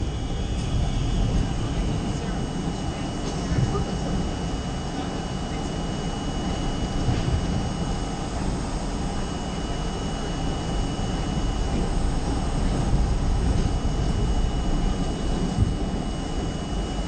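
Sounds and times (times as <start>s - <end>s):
high-pitched whine: 0.0s - 17.0s
train wheels rumbling on rail: 0.0s - 17.0s.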